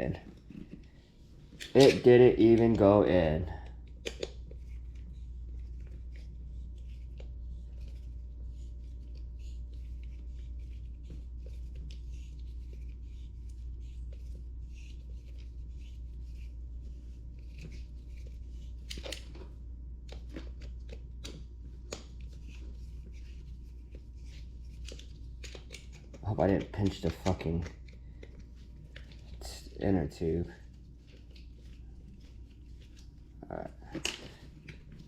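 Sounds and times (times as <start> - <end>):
steady low hum: 0.0 - 35.0
clicks scrapes and rustles: 3.6 - 35.0.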